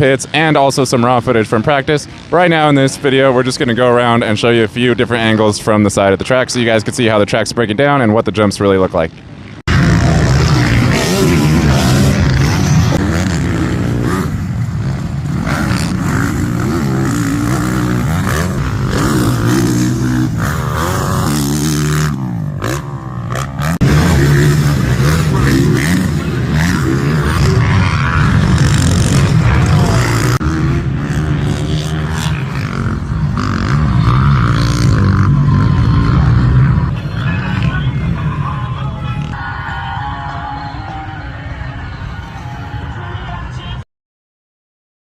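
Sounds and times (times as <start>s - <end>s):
motocross engines revving: 0.0s - 7.2s, 7.8s - 39.4s.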